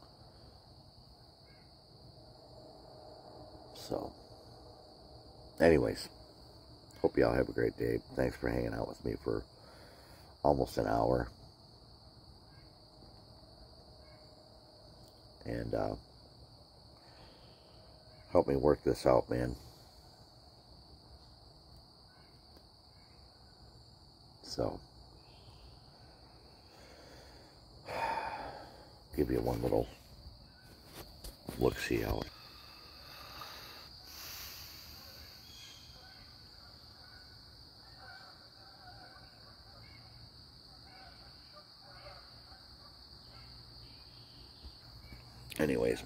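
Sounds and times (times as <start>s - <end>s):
faint distant bird calls: 0.0s - 4.5s, 12.3s - 46.0s
crickets chirping: 0.0s - 46.0s.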